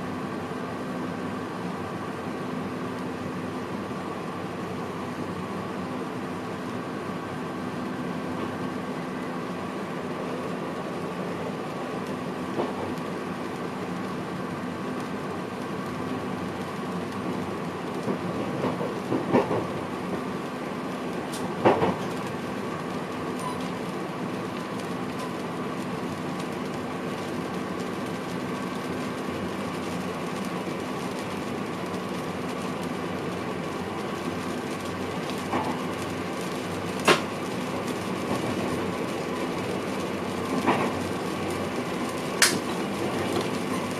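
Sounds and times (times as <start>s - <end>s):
train running noise and hum: 0.0s - 43.9s.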